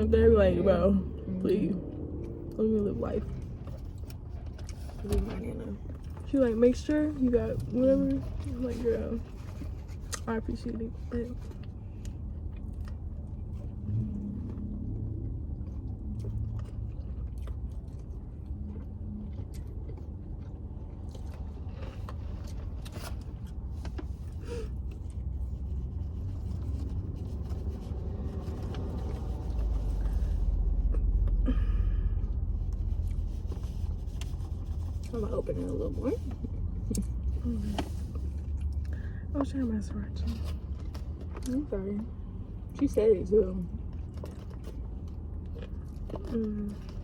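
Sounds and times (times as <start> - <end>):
low car interior rumble: 0.0 - 47.0.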